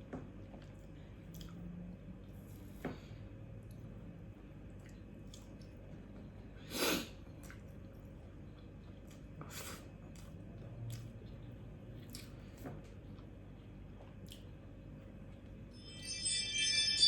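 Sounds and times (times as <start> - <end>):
soft chewing: 0.2 - 15.1.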